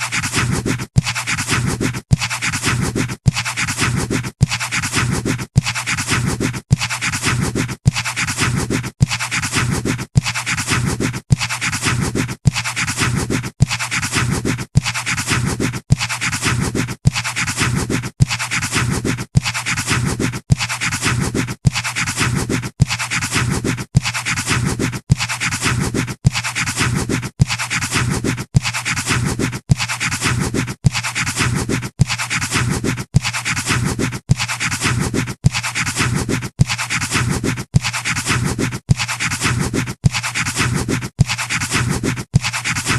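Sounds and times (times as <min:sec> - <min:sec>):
pencil scratching on paper: 0:00.0 - 0:42.9.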